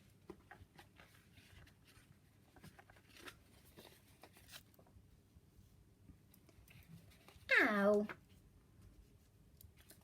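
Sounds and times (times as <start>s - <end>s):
faint small clicks and rustles: 0.0s - 5.0s, 6.2s - 10.0s.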